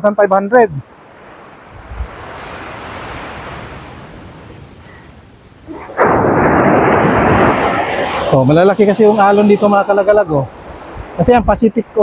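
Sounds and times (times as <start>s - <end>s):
breaking surf rushing: 0.9s - 12.0s
wave washing in: 0.9s - 12.0s.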